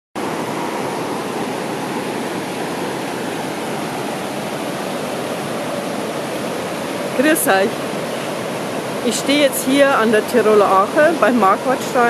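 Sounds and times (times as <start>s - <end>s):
river rushing over gravel rapids: 0.2s - 12.0s.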